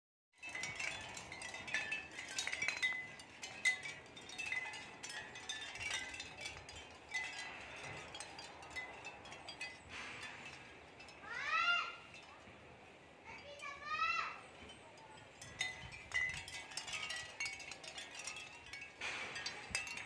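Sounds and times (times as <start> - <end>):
shell wind chime clinking: 0.4 - 13.8, 14.4 - 20.0.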